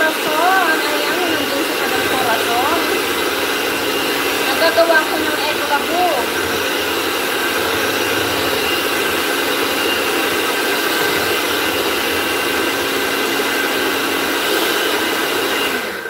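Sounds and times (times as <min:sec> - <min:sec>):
electric hand mixer whining: 0:00.0 - 0:16.0.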